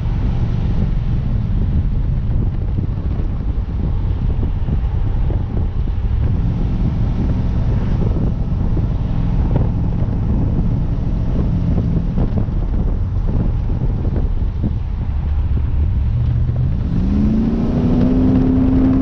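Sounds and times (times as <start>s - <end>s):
truck engine droning: 0.0s - 19.0s
wind buffeting microphone: 0.0s - 19.0s.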